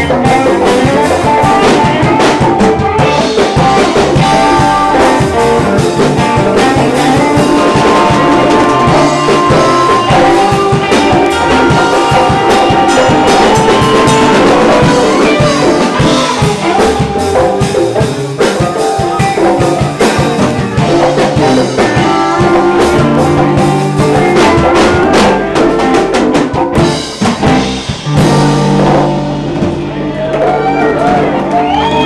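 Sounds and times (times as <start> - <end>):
drum kit: 0.0 - 32.0
electric bass: 0.0 - 32.0
electric guitar: 0.0 - 32.0
rock band playing: 0.0 - 32.0.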